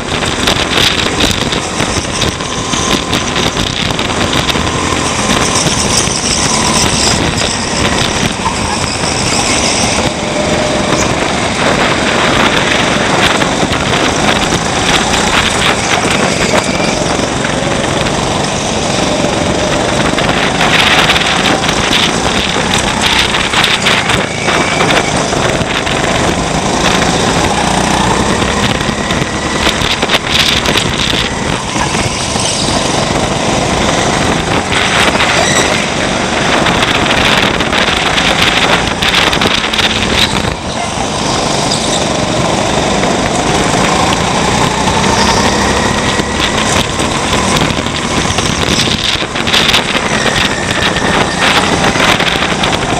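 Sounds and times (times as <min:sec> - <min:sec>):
kart engine accelerating: 0:00.0 - 0:52.9.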